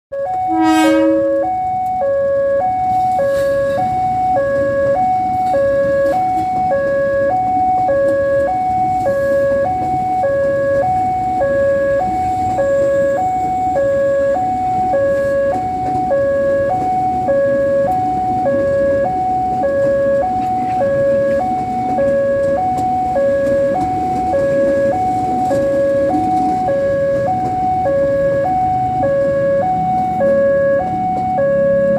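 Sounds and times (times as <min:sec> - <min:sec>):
two-tone electronic warning horn: 0:00.1 - 0:31.9.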